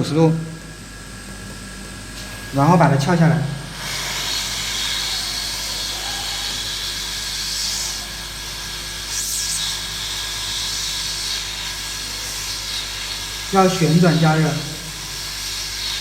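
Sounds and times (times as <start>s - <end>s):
hot air station hissing: 0.0s - 16.0s.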